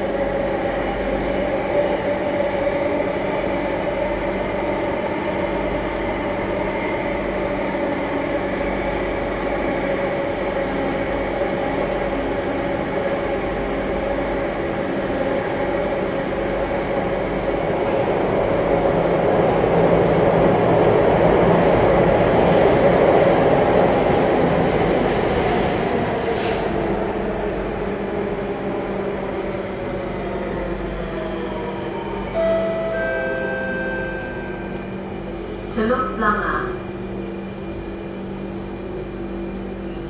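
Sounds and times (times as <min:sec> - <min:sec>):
train wheels rumbling on rails: 0:00.0 - 0:32.2.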